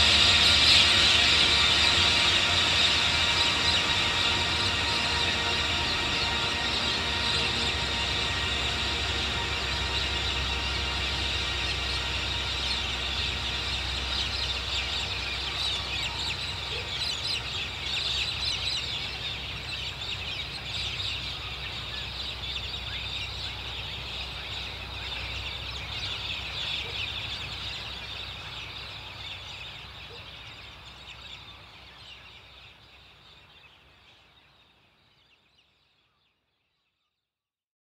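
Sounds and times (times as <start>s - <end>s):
flock of birds calling: 0.0s - 35.7s.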